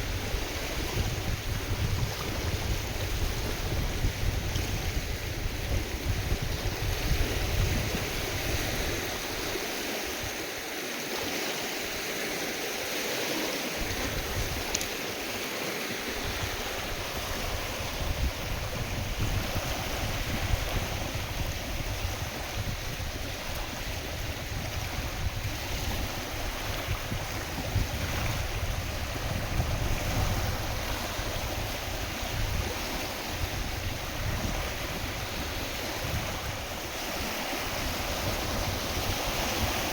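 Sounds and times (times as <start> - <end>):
wind buffeting microphone: 0.0 - 10.5, 13.7 - 39.9
waves lapping and splashing: 0.0 - 39.9.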